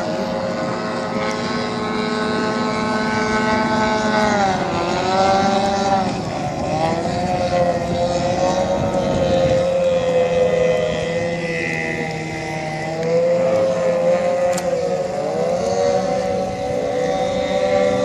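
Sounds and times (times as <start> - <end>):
racing outboard motors buzzing: 0.0 - 18.0.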